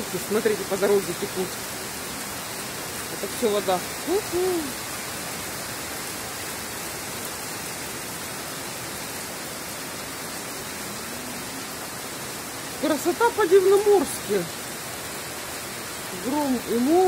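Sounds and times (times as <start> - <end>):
heavy rain on flooded road: 0.0 - 17.0.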